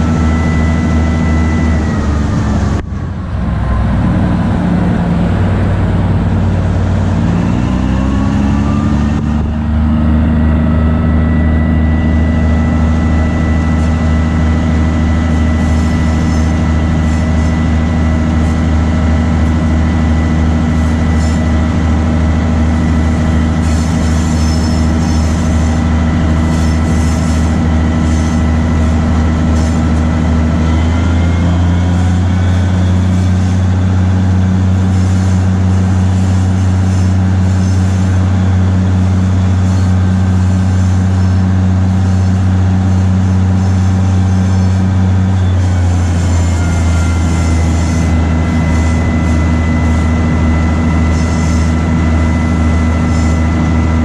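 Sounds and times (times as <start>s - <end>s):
locomotive diesel engine running: 0.0s - 54.0s.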